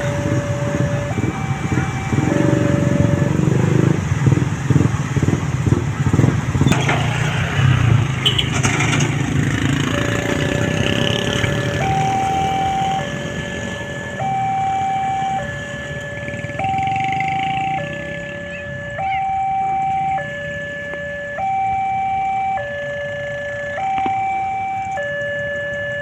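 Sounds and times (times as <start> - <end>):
level crossing warning siren: 0.0 - 4.4, 8.7 - 26.0
passing vehicle rumble: 0.0 - 26.0.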